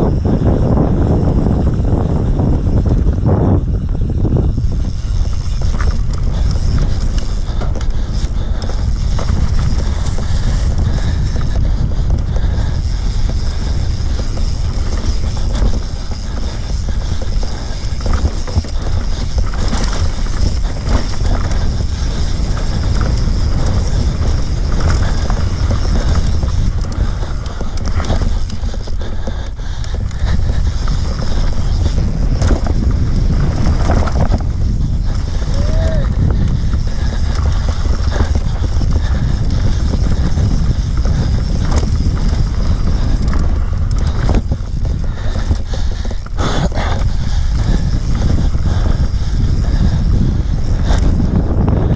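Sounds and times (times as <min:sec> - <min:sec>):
mountain bike rattling and knocking: 0:00.0 - 0:51.9
wind buffeting microphone: 0:00.0 - 0:51.9.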